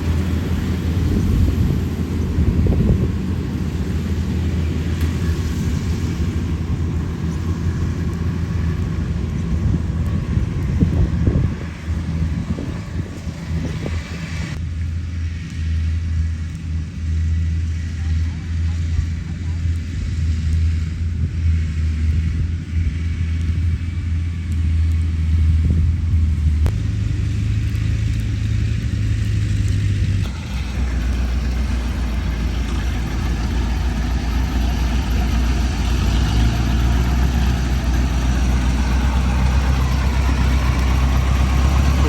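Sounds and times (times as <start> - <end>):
combine harvester diesel engine: 0.0 - 42.0
noisy machinery: 0.0 - 42.0.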